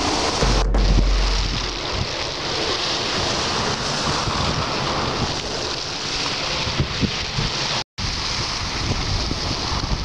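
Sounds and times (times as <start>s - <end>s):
waves washing onto shingle: 0.0s - 10.0s
wind buffeting microphone: 0.0s - 10.0s.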